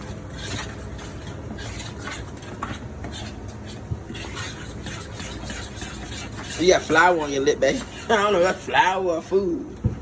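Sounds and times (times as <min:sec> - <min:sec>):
fork scraping flour in bowl: 0:00.0 - 0:08.8.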